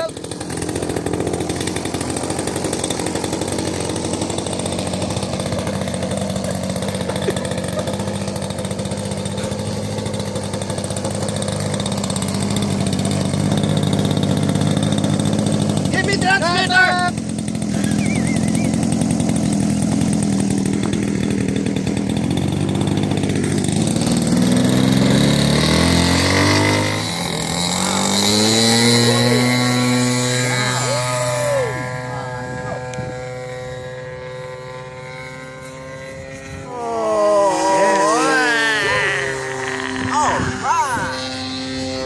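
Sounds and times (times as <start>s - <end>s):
model airplane engine running: 0.0s - 42.0s.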